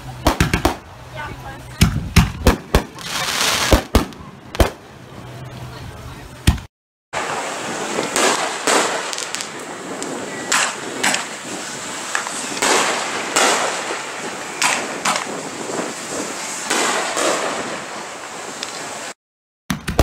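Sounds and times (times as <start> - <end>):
fireworks bangs: 0.0 - 5.0, 6.4 - 20.0
continuous noisy background: 0.0 - 19.2.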